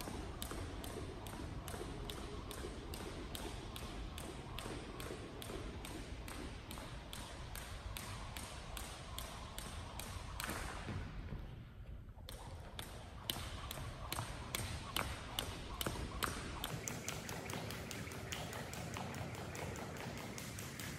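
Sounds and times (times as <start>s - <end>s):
jump rope slapping wooden floor: 0.0s - 20.9s.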